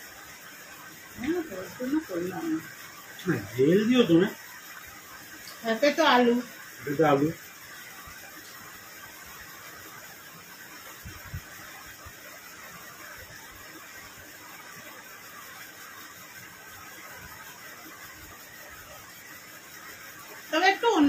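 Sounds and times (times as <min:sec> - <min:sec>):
room hiss: 0:00.0 - 0:21.0.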